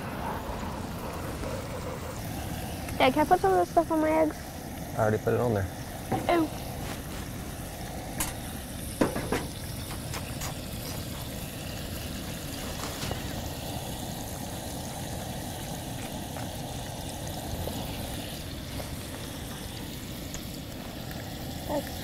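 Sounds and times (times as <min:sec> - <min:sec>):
camp stove hissing: 0:00.0 - 0:22.0
food frying in a skillet: 0:00.0 - 0:22.0.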